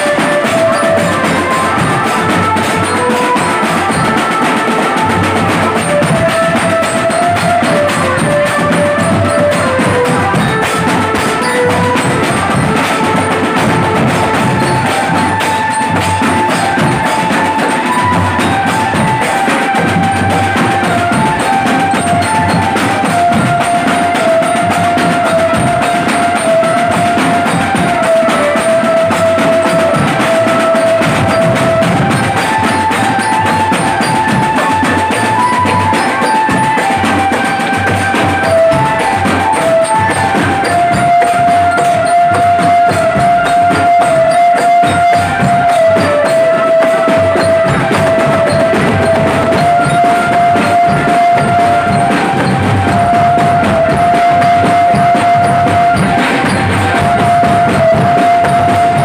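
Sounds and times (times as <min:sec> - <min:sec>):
marching drum band playing: 0:00.0 - 0:59.0.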